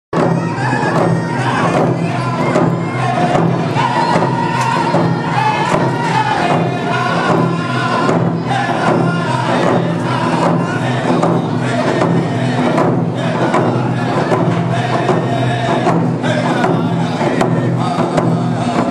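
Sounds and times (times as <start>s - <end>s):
frame drums beating: 0.2s - 18.9s
men singing in unison: 0.2s - 18.9s.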